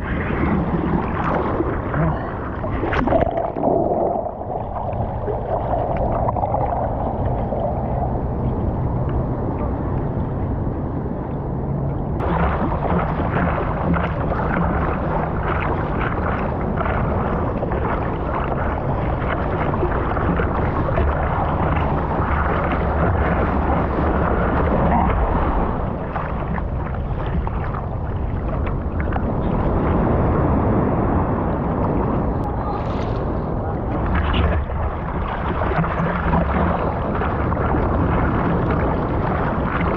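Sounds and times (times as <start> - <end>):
surf water: 0.0 - 39.9
wind on microphone: 0.0 - 39.9.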